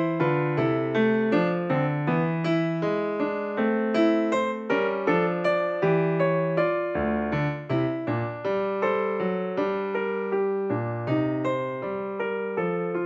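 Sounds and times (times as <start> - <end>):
keyboard piano notes: 0.0 - 13.0.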